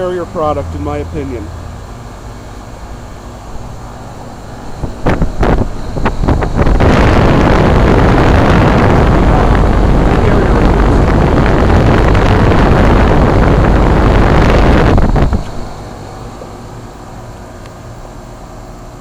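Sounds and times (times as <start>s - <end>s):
condenser fan air rushing: 0.0s - 19.0s.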